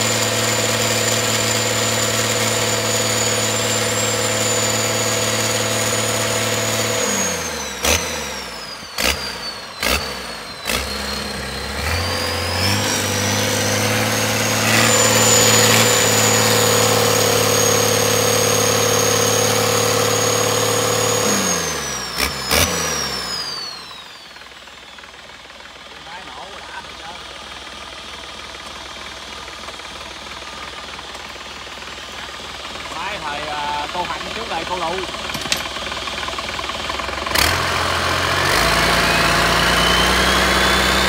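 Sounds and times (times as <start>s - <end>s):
diesel engine running: 0.0s - 41.0s
high engine whine: 0.0s - 41.0s.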